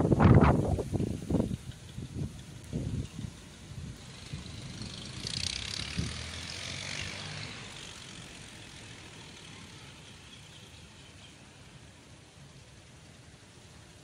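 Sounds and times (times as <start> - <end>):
storm wind through shrubs: 0.0 - 14.0.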